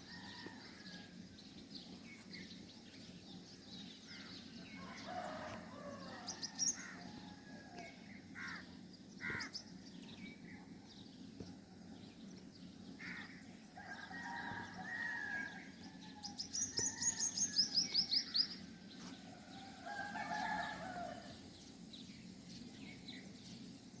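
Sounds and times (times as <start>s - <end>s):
birds chirping: 0.1s - 24.0s.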